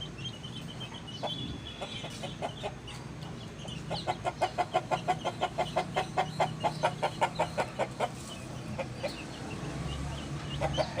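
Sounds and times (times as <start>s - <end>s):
bird clucking call: 1.1s - 9.3s, 10.4s - 11.0s.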